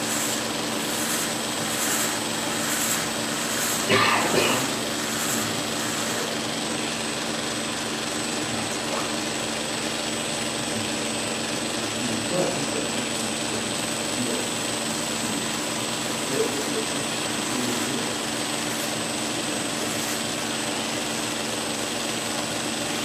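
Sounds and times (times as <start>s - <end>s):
belt grinder whining: 0.0s - 12.0s, 12.6s - 23.0s.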